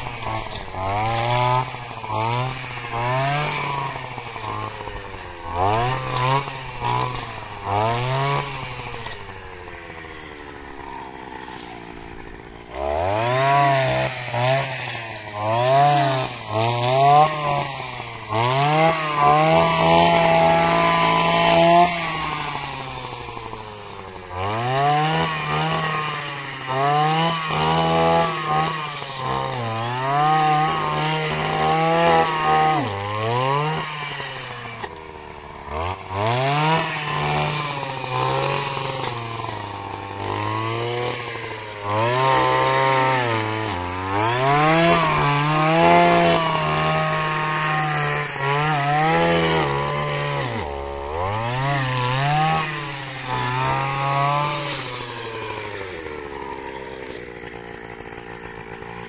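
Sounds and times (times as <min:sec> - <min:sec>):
brushcutter engine cutting grass: 0:00.0 - 0:59.0.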